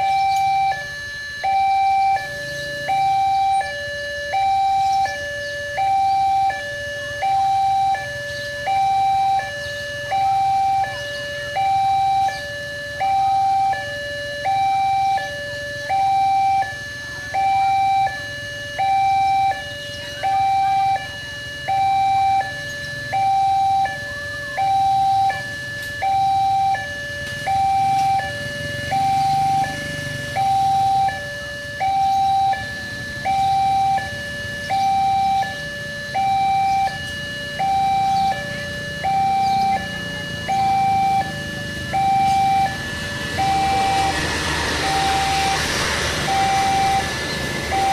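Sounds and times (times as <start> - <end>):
level crossing two-tone alarm: 0.0 - 47.9.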